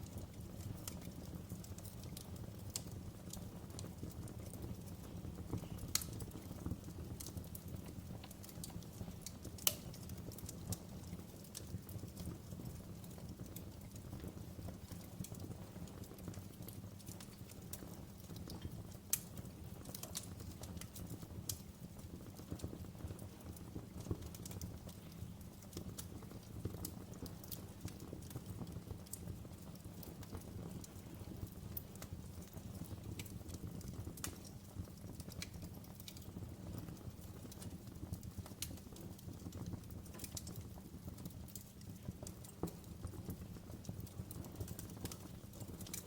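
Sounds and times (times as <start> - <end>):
low rumble of flames: 0.0 - 46.0
wood fire crackling: 0.0 - 46.0.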